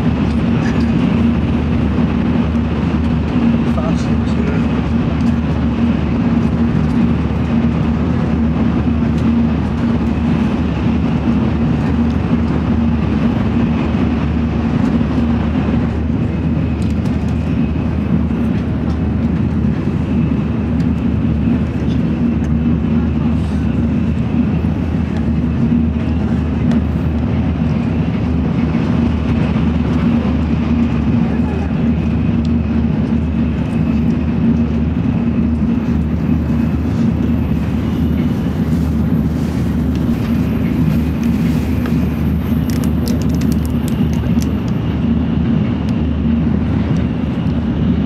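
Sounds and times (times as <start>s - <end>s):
train cabin rumble: 0.0s - 48.0s.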